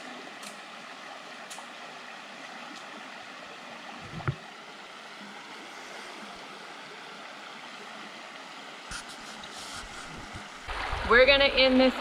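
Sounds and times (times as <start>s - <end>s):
creek water flowing over rocks: 0.0s - 12.0s.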